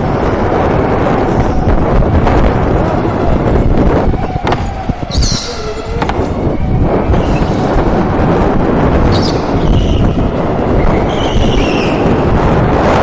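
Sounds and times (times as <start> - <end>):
rumble of wind and tyres: 0.0 - 13.0.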